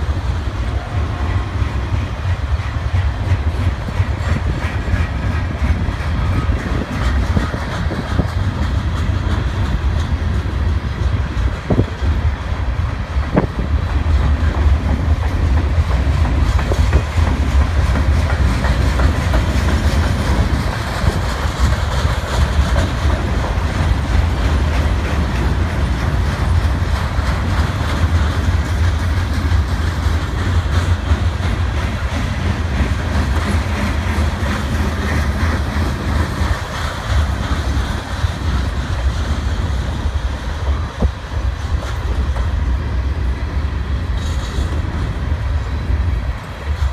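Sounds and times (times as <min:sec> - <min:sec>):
train wheels rumbling on rails: 0:00.0 - 0:46.9
wheels clicking over rail joints: 0:01.8 - 0:46.9.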